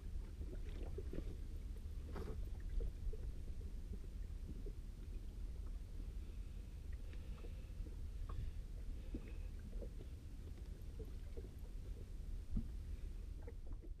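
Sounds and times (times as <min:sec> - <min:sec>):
wind and sea rumble: 0:00.0 - 0:14.0.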